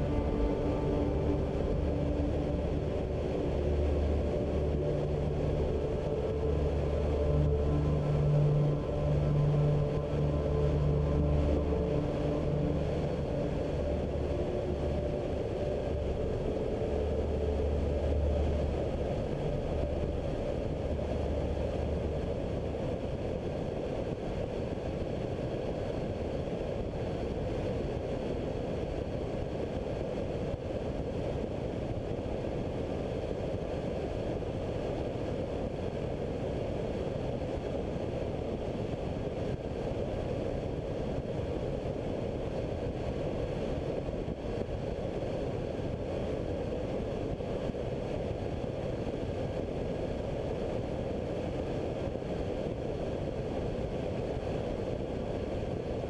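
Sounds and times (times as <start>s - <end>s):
engine and propeller drone: 0.0s - 56.0s
wind rushing over microphone: 0.0s - 56.0s.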